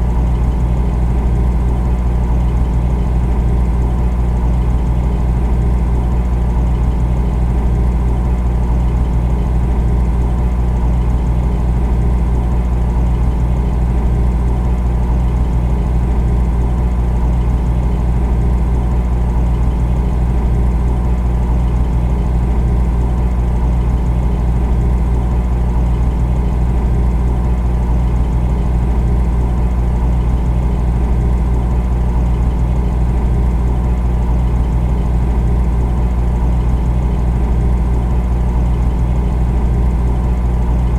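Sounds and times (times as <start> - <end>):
refrigerator humming: 0.0 - 40.9.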